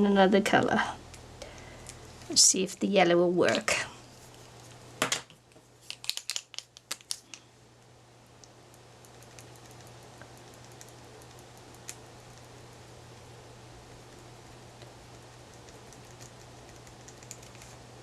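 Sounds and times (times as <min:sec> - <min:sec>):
steady low hum: 0:00.0 - 0:06.0, 0:06.7 - 0:18.0.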